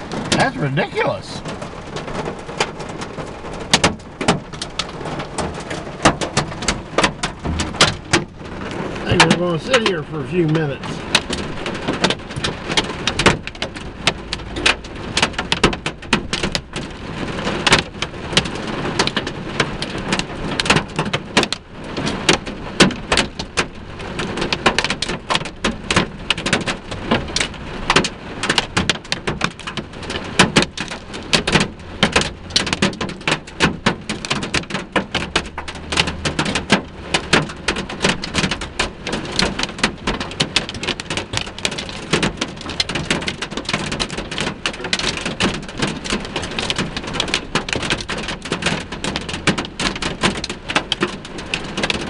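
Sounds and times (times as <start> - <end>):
hail and rain on vehicle roof: 0.0 - 52.0.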